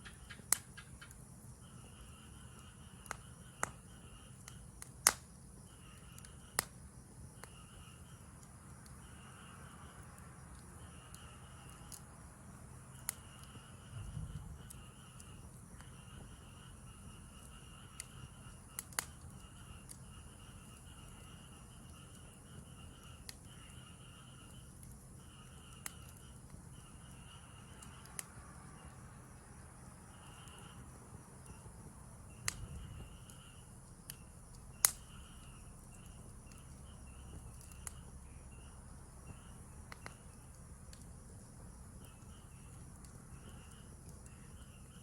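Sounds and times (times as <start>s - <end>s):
campfire crackling and popping: 0.0s - 45.0s
insects chirping in trills: 0.0s - 45.0s.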